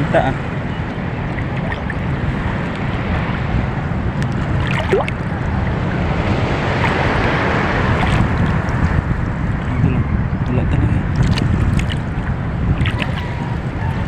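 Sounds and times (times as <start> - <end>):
water washing around boat: 0.0 - 9.7, 10.8 - 14.0
wind rumbling on microphone: 0.0 - 14.0.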